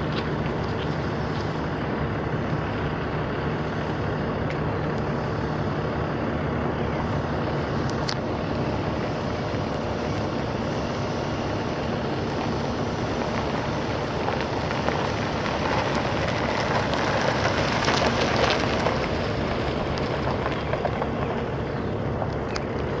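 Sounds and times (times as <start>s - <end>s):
constant rushing noise: 0.0s - 23.0s
pickup engine running: 0.0s - 23.0s.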